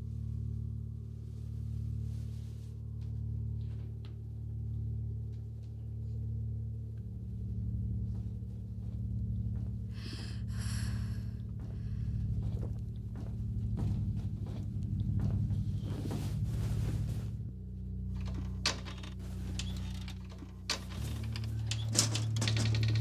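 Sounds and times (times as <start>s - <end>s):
low dark film score drone: 0.0s - 23.0s.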